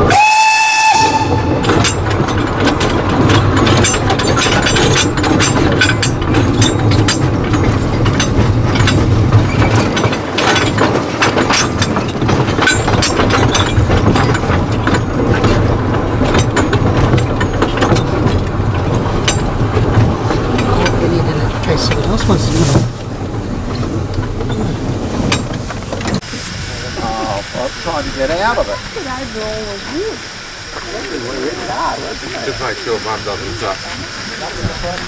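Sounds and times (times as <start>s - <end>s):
steam locomotive running: 0.0s - 35.0s
wheels clicking on rails: 0.0s - 35.0s.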